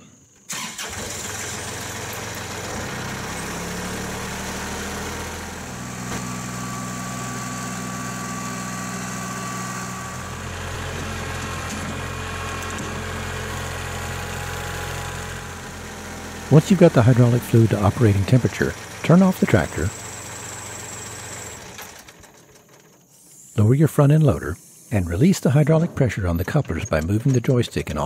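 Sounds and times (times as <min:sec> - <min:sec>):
tractor diesel engine running: 0:00.5 - 0:23.0, 0:23.6 - 0:28.0.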